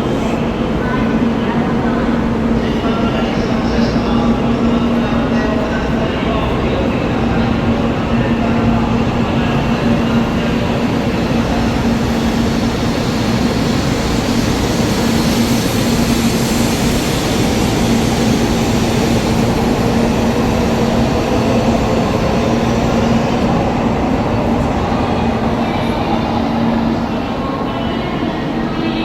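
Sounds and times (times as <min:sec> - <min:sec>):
train rail rumble: 0:00.0 - 0:29.0.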